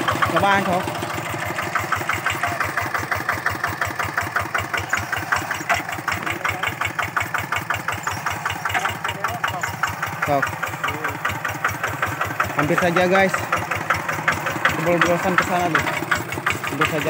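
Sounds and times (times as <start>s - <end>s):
hand tractor diesel engine chugging: 0.0s - 17.0s.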